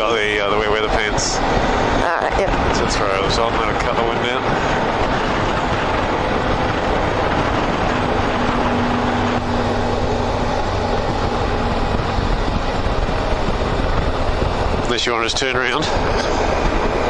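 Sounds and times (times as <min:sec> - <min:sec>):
motorcycle engine running: 0:00.0 - 0:17.0
wind rush over microphone: 0:00.0 - 0:17.0.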